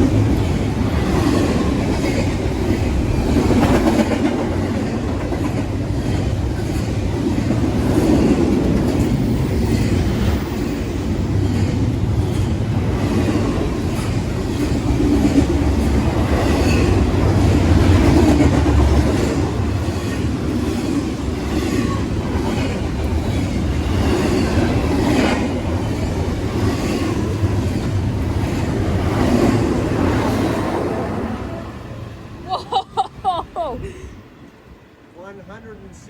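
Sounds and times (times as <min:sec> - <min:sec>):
train passing: 0:00.0 - 0:36.0.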